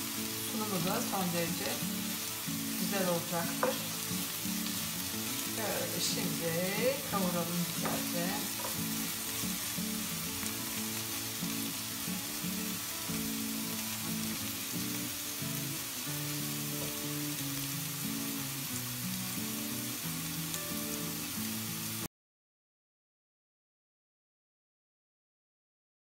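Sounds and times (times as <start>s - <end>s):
background music: 0.0s - 22.0s
vegetables sizzling in oil: 0.0s - 22.1s.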